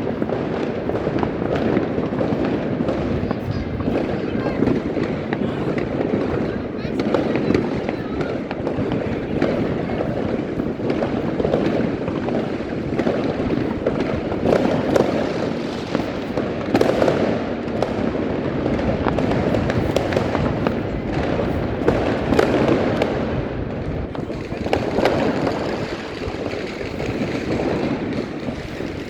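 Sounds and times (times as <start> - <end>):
fireworks barrage bangs and crackling: 0.0 - 29.0.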